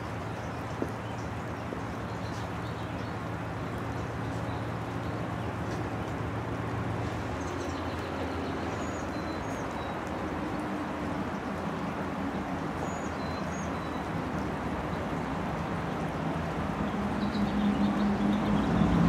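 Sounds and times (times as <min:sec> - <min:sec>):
low engine hum with hiss: 0:00.0 - 0:19.0.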